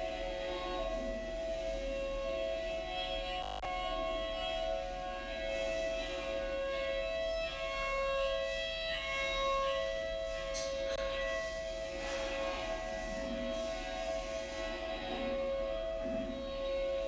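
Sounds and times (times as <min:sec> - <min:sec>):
warning siren steady tone: 0:00.1 - 0:17.0.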